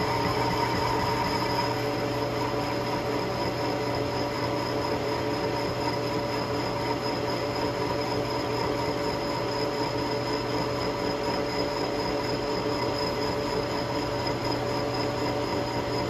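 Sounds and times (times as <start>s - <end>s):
metal lathe whining: 0.0s - 16.0s.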